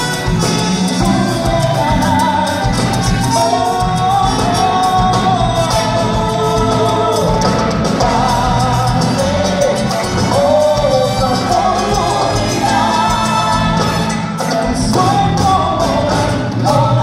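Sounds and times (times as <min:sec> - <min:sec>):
live band playing: 0:00.0 - 0:17.0
man singing: 0:00.0 - 0:17.0.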